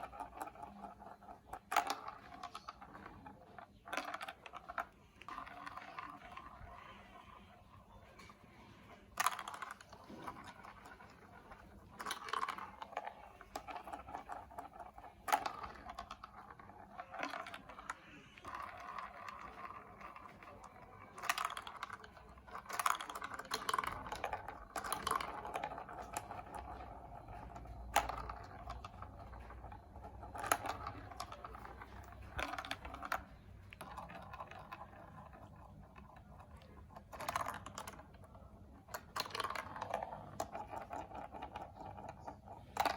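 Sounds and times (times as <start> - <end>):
plastic pieces clicking and clattering: 0.0 - 42.9.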